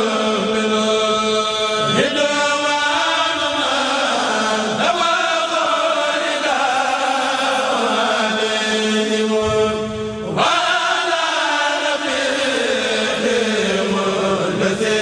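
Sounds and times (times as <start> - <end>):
group chanting long held notes: 0.0 - 15.0.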